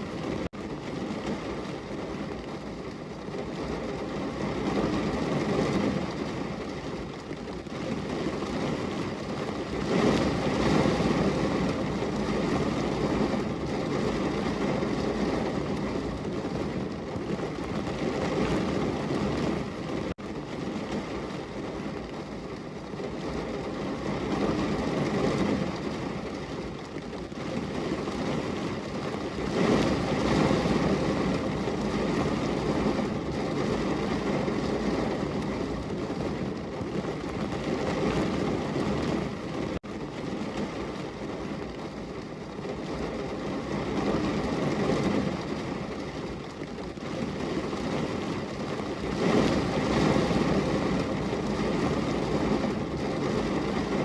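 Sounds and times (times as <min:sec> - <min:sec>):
heavy rain on a window: 0:00.0 - 0:54.0.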